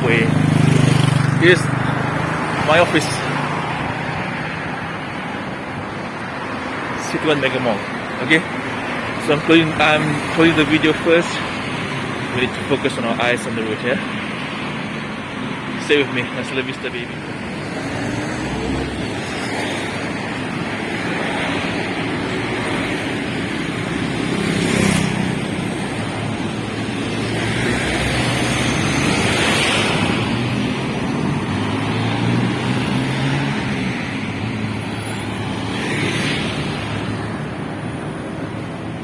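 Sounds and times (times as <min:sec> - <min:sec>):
cars passing by: 0:00.0 - 0:39.0
traffic hum: 0:00.0 - 0:39.0.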